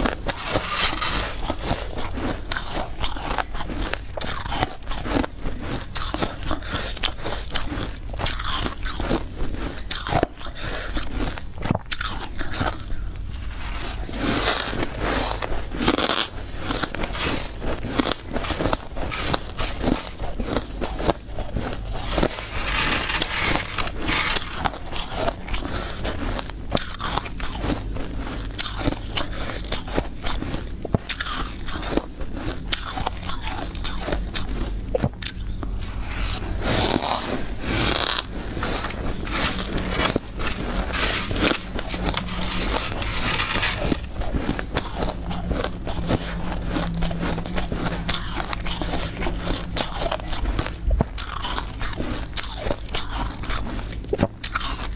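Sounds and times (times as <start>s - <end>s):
low steady hum: 0.0s - 54.9s
person chewing ice crunching: 0.0s - 54.9s.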